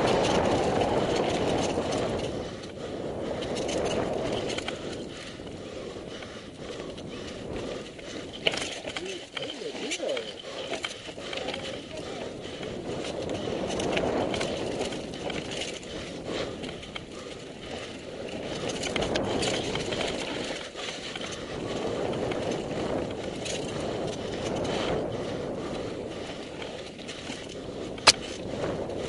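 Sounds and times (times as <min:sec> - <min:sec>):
bike clicks and rattles: 0:00.0 - 0:29.0
wind and tyres rushing: 0:00.0 - 0:29.0.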